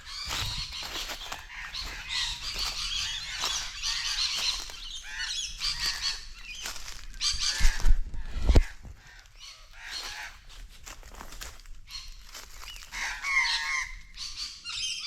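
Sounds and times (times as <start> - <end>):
birds alarm calls: 0.0 - 11.3, 11.9 - 15.0.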